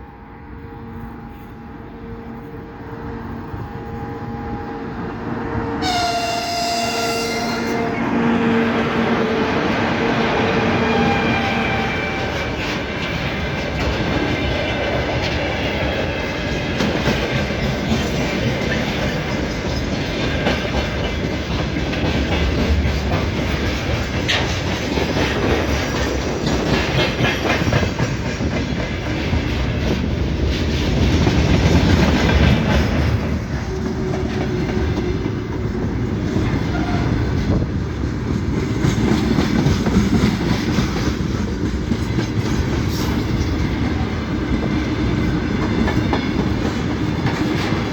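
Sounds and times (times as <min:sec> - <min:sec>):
train wheels rolling on rails: 0:00.0 - 0:47.9.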